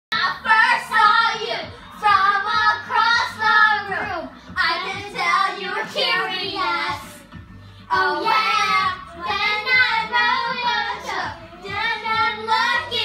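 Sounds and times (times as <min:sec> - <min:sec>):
girls singing in high voices: 0:00.1 - 0:07.2, 0:07.9 - 0:13.0.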